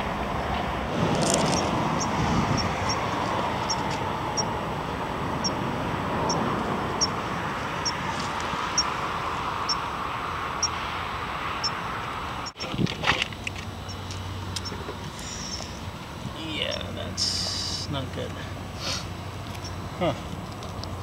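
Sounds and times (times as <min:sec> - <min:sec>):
outdoor rushing noise: 0:00.0 - 0:21.0.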